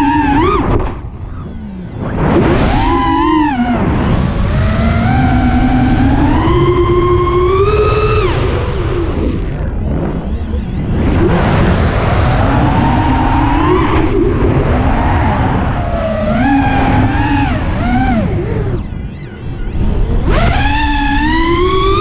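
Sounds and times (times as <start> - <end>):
wind rushing on microphone: 0.0 - 19.0
quadcopter motors whining: 0.0 - 22.0.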